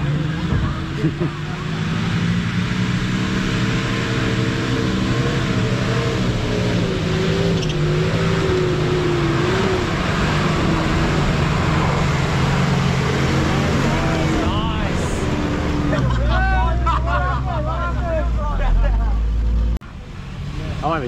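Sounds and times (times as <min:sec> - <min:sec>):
engine working under load: 0:00.0 - 0:21.0.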